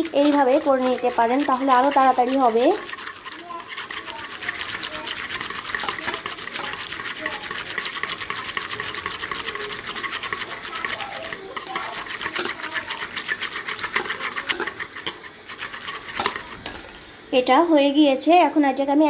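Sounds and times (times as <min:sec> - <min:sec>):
frother motor whirring: 0:00.0 - 0:16.9
whisk rattling in a bowl: 0:00.0 - 0:17.6.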